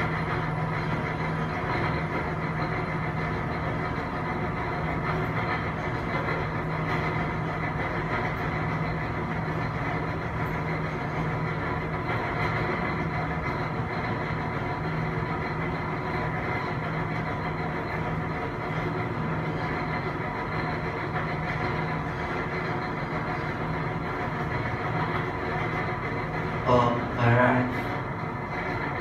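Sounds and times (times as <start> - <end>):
elevator low hum: 0.0 - 29.0.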